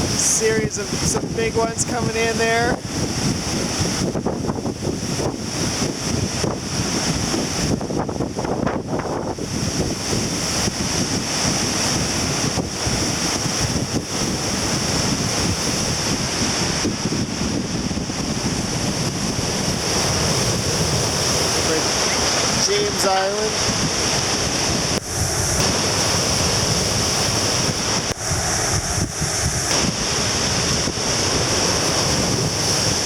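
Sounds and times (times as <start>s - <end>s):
surf breaking on shore: 0.0s - 33.0s
wind buffeting microphone: 0.0s - 33.0s.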